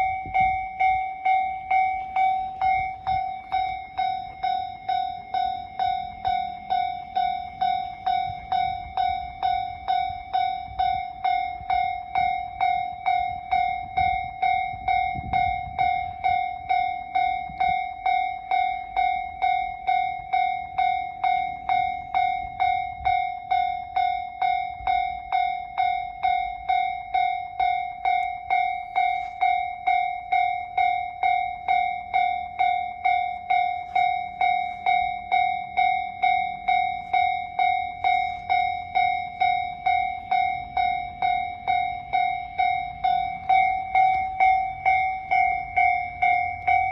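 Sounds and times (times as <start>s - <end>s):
level crossing bell ringing: 0.0s - 46.9s.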